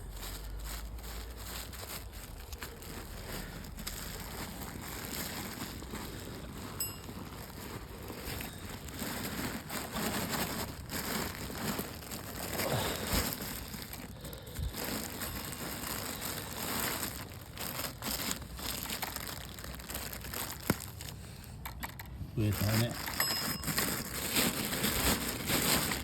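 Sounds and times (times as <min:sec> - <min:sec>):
material crinkling and rustling: 0:00.0 - 0:26.0.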